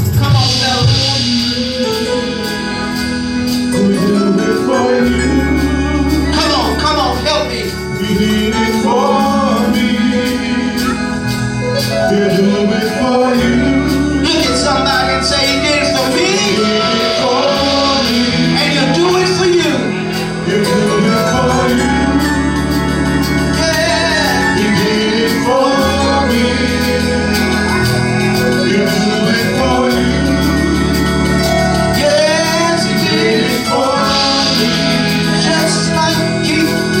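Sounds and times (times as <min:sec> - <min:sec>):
instrumental accompaniment: 0:00.0 - 0:37.0
voices singing: 0:00.3 - 0:37.0.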